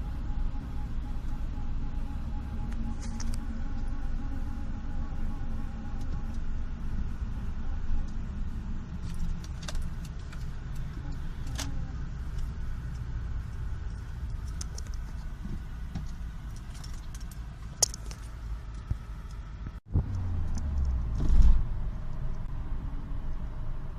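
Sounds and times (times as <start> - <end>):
faint whine: 0.0 - 23.9
road rumble in car cabin: 0.0 - 23.9.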